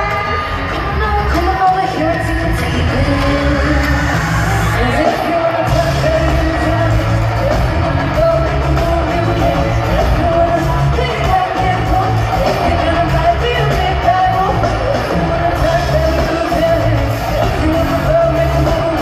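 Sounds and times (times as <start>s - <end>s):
heavy bass backing: 0.0s - 19.0s
woman singing lead vocals: 0.0s - 19.0s.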